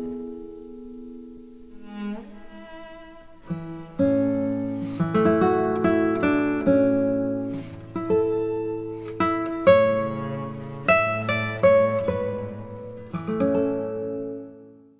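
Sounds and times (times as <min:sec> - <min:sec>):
acoustic guitar plucking: 0:00.0 - 0:14.9.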